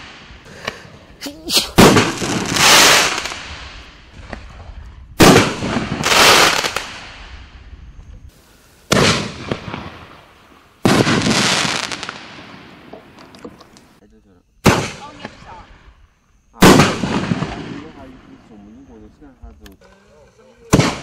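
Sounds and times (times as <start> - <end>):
crackling hiss: 0.0 - 21.0.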